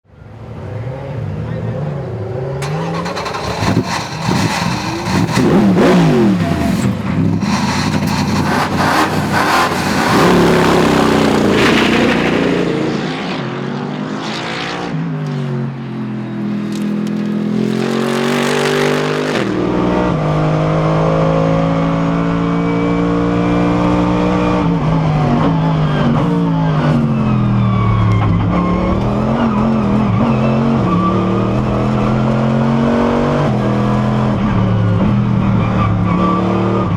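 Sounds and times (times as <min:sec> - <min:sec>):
race car engine revving: 0:02.6 - 0:36.9.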